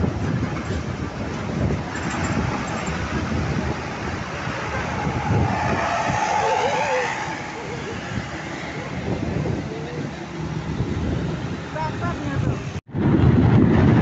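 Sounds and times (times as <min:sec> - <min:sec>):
vehicle engine and tyres rumble: 0:00.0 - 0:14.0
wind buffeting microphone: 0:00.0 - 0:14.0.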